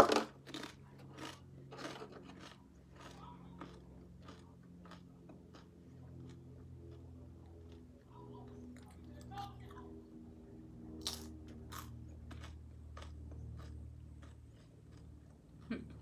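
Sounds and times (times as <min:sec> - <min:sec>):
crunchy chip chewing: 0:00.0 - 0:09.8, 0:11.0 - 0:16.0
low steady hum: 0:00.0 - 0:16.0.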